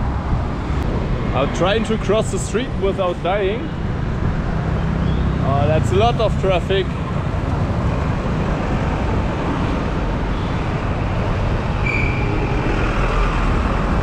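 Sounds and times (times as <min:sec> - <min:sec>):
dense road traffic rumble: 0:00.0 - 0:14.0.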